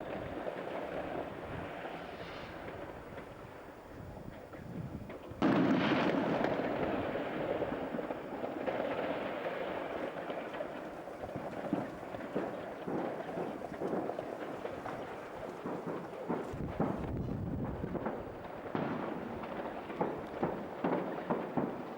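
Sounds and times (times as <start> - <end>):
fireworks crackling and rumbling: 0.0 - 21.9
fireworks pops: 0.0 - 21.9.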